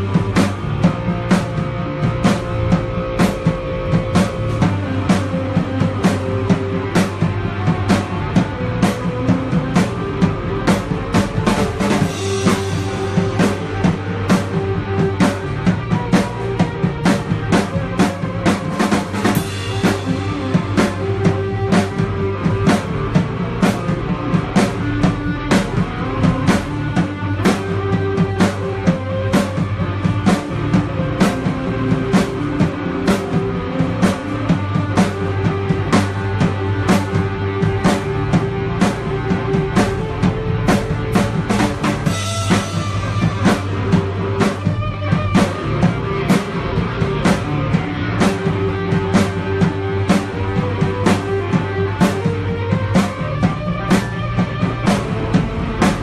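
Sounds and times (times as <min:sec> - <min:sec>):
bass notes: 0:00.0 - 0:56.0
drum kit steady beat: 0:00.0 - 0:56.0
sustained guitar notes: 0:00.0 - 0:56.0.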